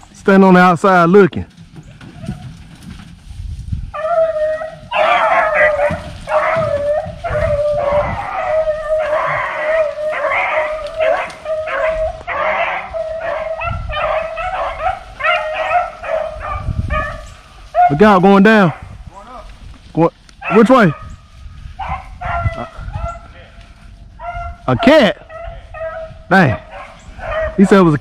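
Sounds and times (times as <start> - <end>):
dogs barking and baying: 1.8 - 2.9, 3.9 - 19.1, 20.3 - 28.0.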